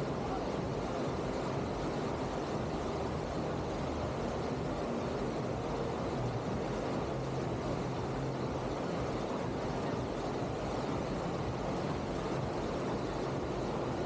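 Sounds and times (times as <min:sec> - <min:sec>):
rushing water wave: 0:00.0 - 0:14.0.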